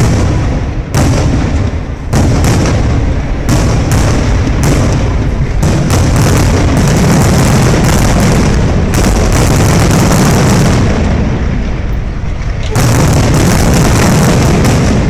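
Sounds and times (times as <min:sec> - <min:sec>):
firework shells booming: 0:00.0 - 0:15.0.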